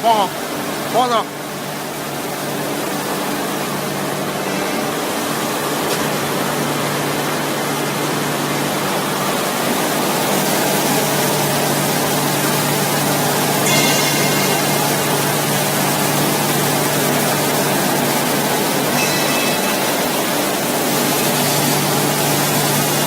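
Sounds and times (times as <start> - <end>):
spraying water rush: 0.0 - 23.0.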